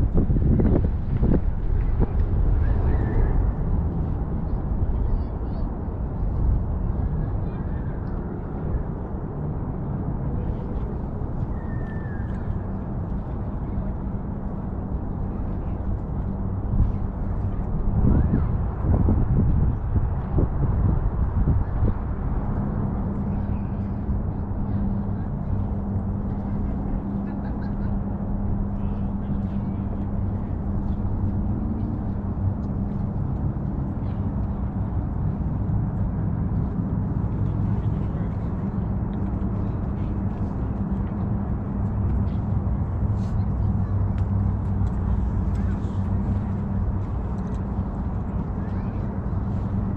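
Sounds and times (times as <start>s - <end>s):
distant city noise: 0.0s - 49.9s
wind buffeting microphone: 0.0s - 49.9s.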